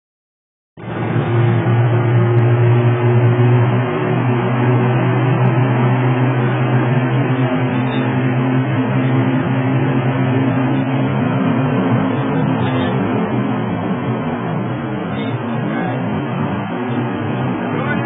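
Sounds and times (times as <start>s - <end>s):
engine drone: 0.8s - 18.0s
road noise: 0.8s - 18.0s.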